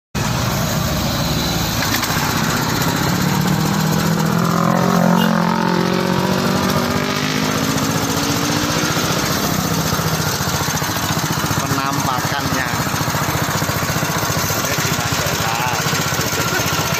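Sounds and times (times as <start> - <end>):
juice press motor drone: 0.2 - 16.9.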